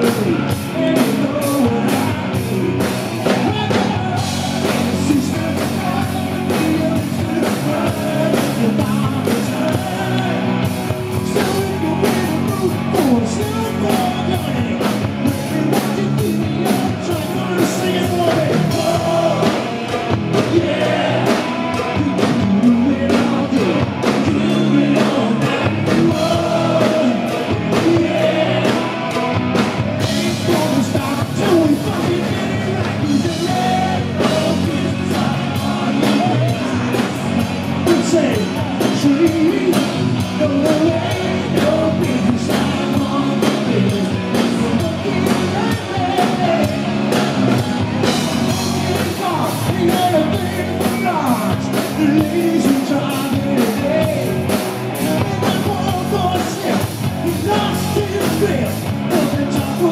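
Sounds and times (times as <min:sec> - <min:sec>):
male singer: 0:00.0 - 0:47.7, 0:48.5 - 0:59.9
drum kit beat: 0:00.0 - 0:59.9
electric guitars: 0:00.0 - 0:59.9.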